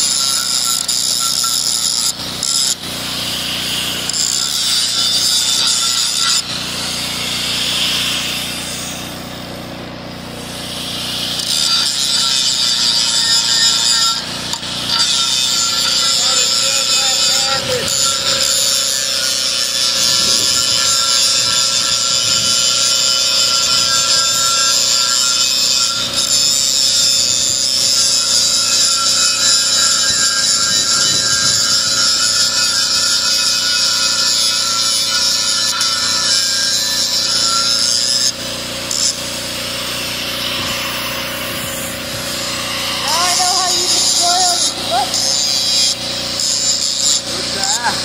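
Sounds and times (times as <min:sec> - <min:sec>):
angle grinder grinding metal: 0:00.0 - 0:48.0.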